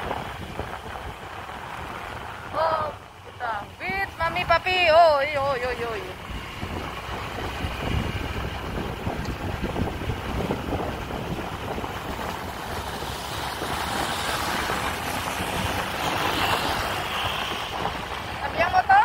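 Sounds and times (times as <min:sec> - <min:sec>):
road noise: 0:00.0 - 0:19.0
scooter engine: 0:00.0 - 0:19.0
wind rushing over microphone: 0:00.0 - 0:19.0.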